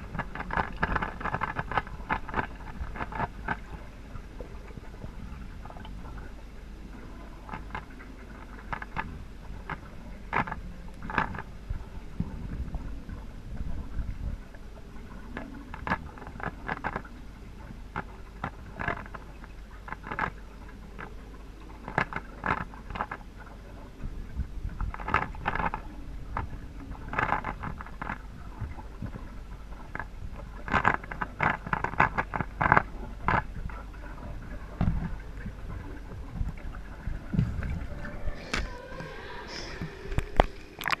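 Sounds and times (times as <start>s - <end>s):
muffled underwater clicking: 0.0s - 41.0s
steady low hum: 0.0s - 41.0s
water splashing and sloshing: 0.0s - 41.0s.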